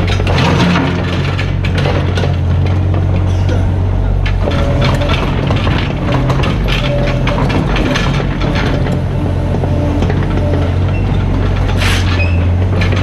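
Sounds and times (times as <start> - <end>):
diesel engine running: 0.0 - 13.0
metallic clatter and knocking: 0.0 - 13.0.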